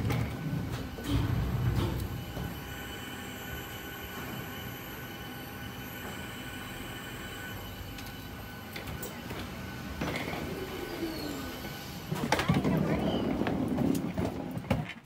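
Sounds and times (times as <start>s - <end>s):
faint high whining tones: 0.0s - 13.4s.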